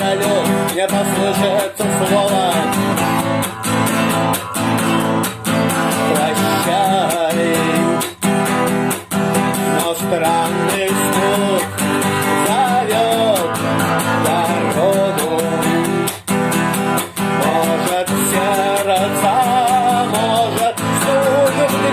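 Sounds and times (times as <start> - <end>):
steady beat: 0.0 - 21.9
strummed guitar: 0.0 - 21.9.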